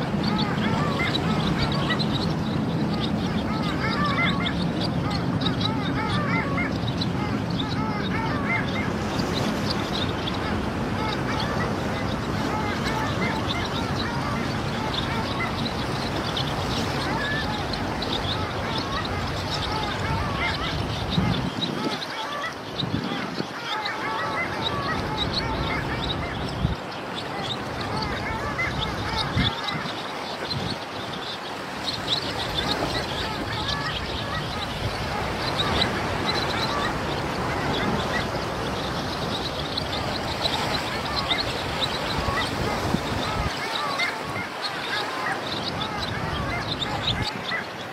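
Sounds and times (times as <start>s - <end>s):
ducks calling: 0.0s - 47.9s
sea water washing: 0.0s - 47.9s.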